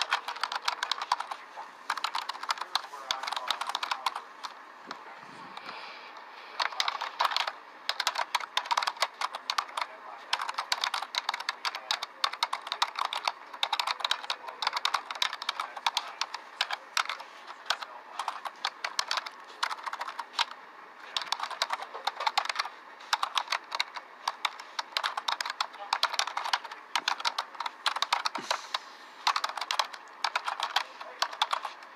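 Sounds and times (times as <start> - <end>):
keyboard typing: 0.0 - 5.8, 6.5 - 31.9.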